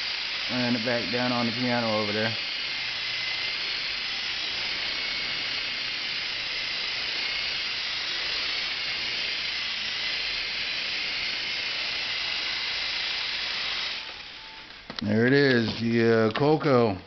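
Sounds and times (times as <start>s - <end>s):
electric motors whining: 0.0s - 17.0s
rotors rushing: 0.0s - 17.0s.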